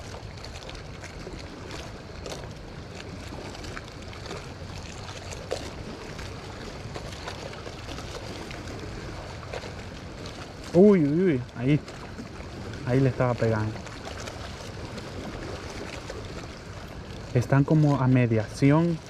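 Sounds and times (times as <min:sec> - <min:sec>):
water lapping: 0:00.0 - 0:19.0
wind: 0:00.0 - 0:19.0.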